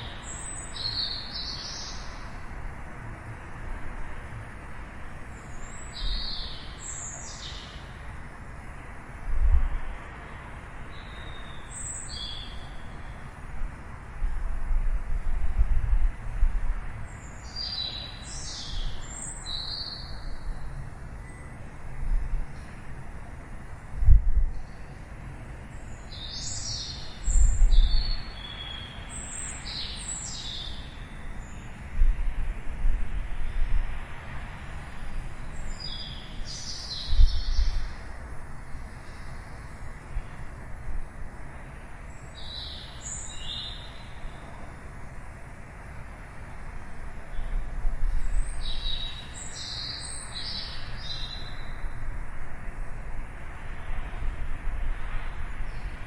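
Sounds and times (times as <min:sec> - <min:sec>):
songbirds chirping: 0:00.0 - 0:09.1, 0:09.7 - 0:14.0, 0:16.7 - 0:23.9, 0:24.5 - 0:32.3, 0:33.6 - 0:51.9
city background rumble: 0:00.0 - 0:56.0.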